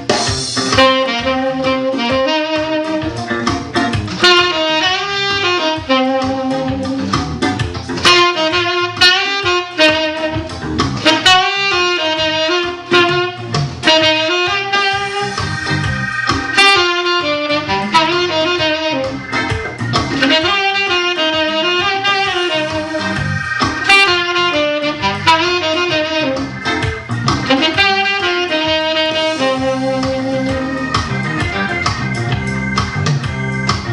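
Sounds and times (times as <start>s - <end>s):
backing track with drums: 0.0s - 33.9s
saxophone playing jazzy melody: 0.0s - 33.9s.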